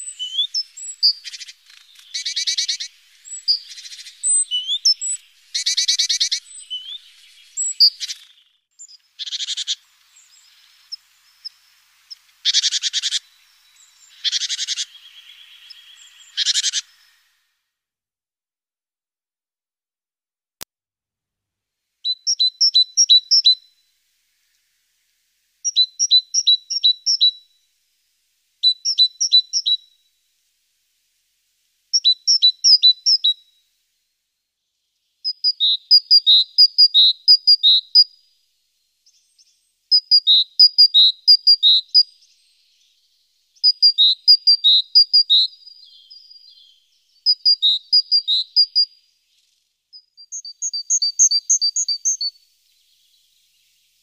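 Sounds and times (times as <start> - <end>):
songbird chirping: 0.0 - 17.7, 22.0 - 54.0.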